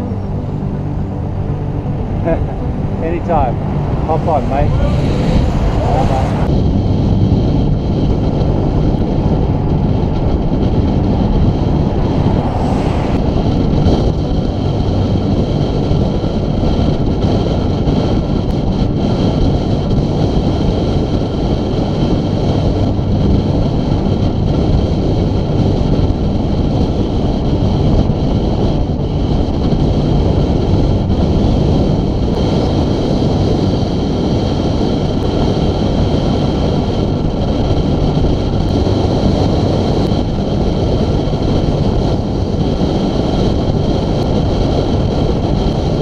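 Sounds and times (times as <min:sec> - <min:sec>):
wind rushing over microphone: 0:00.0 - 0:46.0
bicycle tyre noise on tarmac: 0:02.2 - 0:46.0.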